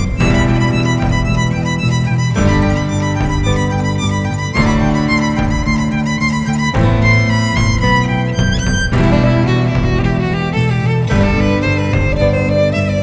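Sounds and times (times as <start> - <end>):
violin-led instrumental music: 0.0 - 13.0.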